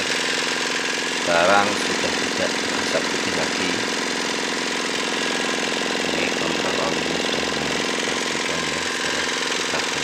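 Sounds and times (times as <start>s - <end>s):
diesel engine chugging: 0.0s - 10.0s.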